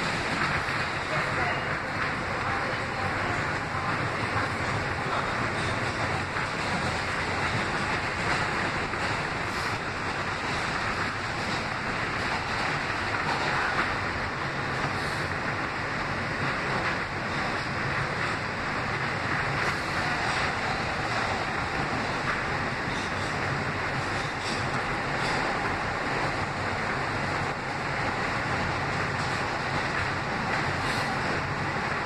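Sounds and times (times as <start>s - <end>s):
subway train running: 0.0s - 32.0s.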